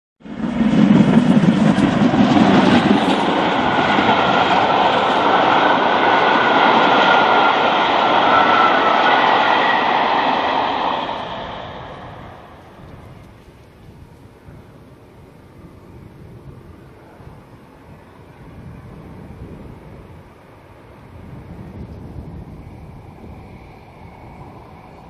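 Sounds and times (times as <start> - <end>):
train roaring at speed: 0.2 - 25.0.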